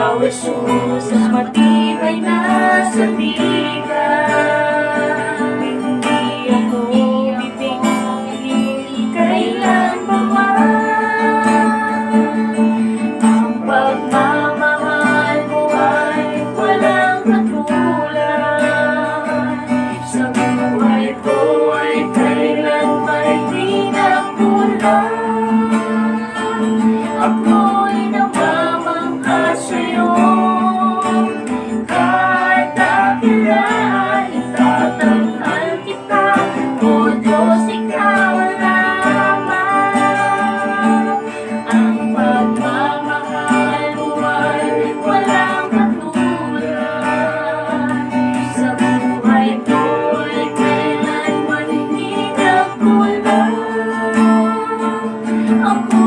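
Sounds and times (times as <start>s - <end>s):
man and woman singing: 0.0s - 56.0s
strummed acoustic guitar: 0.0s - 56.0s.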